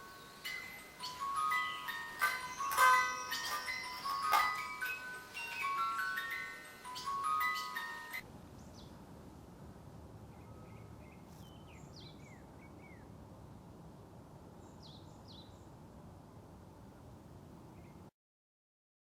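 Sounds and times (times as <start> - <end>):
low outdoor ambience: 0.0 - 18.1.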